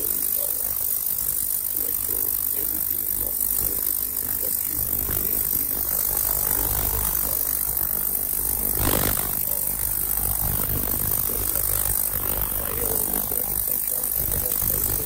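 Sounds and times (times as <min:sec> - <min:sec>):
harsh high hiss: 0:00.0 - 0:15.0
ultrasonic cleaner humming: 0:00.0 - 0:15.0.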